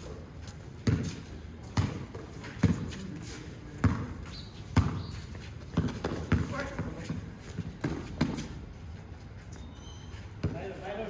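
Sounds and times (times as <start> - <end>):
basketball bouncing on concrete: 0.1 - 8.6, 10.4 - 11.0.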